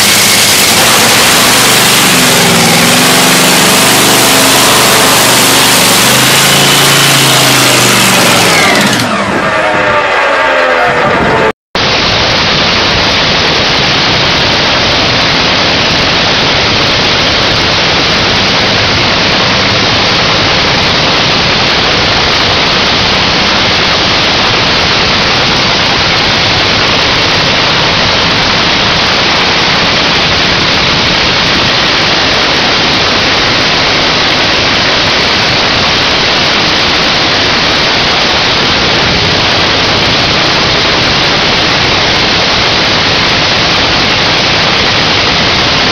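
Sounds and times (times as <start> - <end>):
loud distorted engine roar: 0.0 - 45.9.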